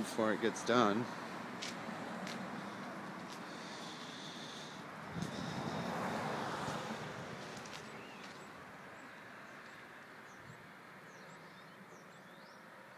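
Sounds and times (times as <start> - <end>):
low street hush: 0.0 - 12.9
passing vehicle: 0.0 - 12.9.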